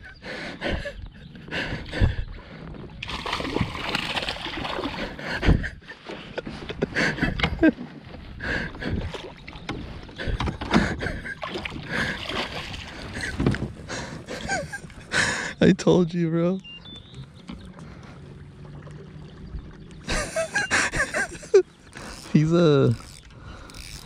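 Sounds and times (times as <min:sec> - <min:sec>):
water splashing around a kayak: 0:02.6 - 0:15.1, 0:17.2 - 0:24.0.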